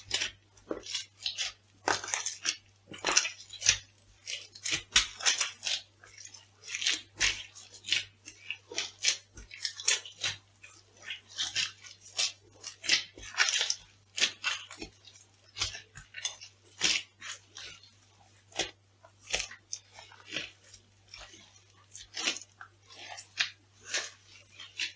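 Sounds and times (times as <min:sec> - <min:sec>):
food crunching underfoot: 0:00.0 - 0:24.9.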